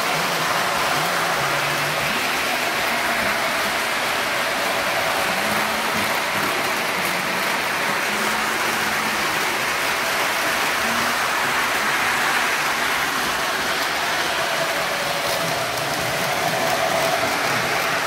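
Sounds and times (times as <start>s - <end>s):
model train wheels hissing on rail: 0.0s - 18.0s.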